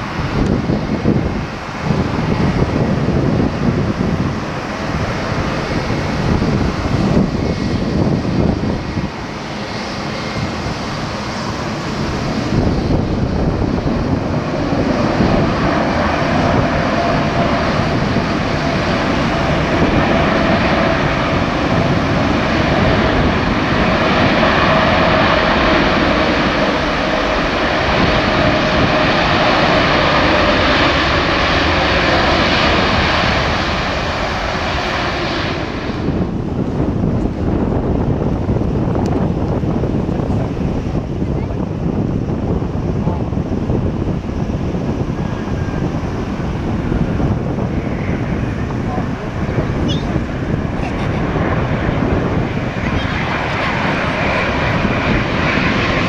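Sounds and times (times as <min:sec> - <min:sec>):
jet engines landing: 0:00.0 - 0:56.0
wind on microphone: 0:00.0 - 0:56.0.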